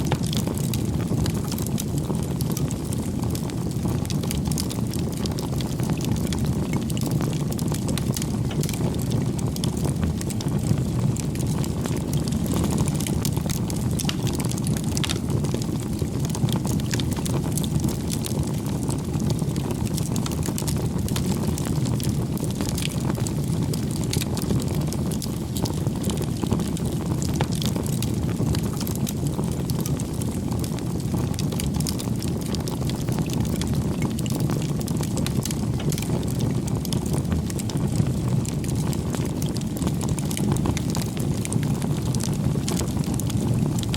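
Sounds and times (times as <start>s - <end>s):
campfire flames crackling: 0.0s - 43.9s.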